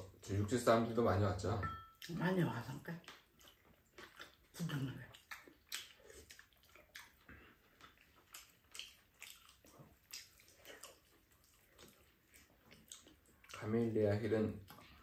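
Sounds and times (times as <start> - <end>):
eating sounds: 1.9 - 15.0.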